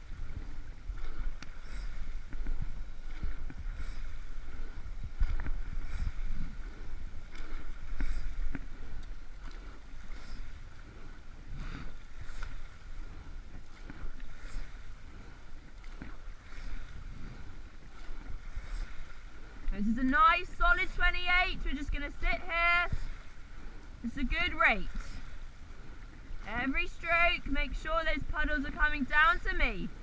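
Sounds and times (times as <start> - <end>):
water rushing past hull: 0.0 - 30.0
wind on microphone: 0.0 - 30.0.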